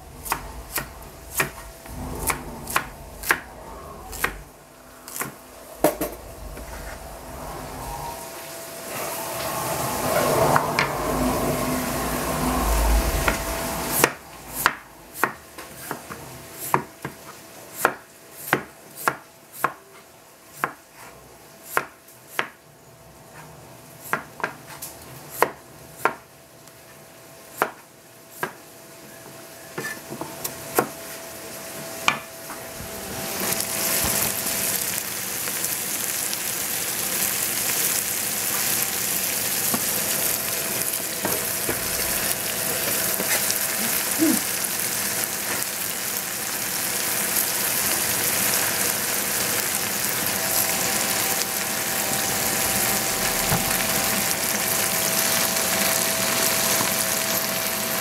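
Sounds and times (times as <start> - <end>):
vegetables sizzling in a pot: 0.0 - 58.0.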